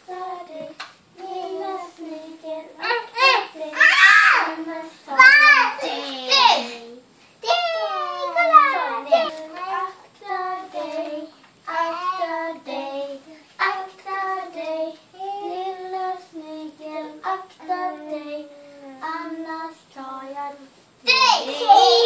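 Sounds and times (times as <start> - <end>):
child singing: 0.0 - 22.0.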